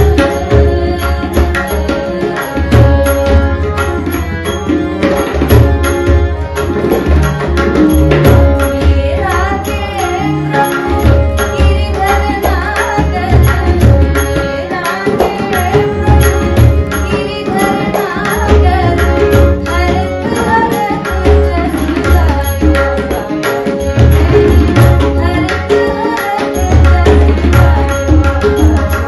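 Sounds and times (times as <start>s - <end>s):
woman singing: 0.0s - 3.5s, 7.4s - 29.0s
harmonium held notes: 0.0s - 29.0s.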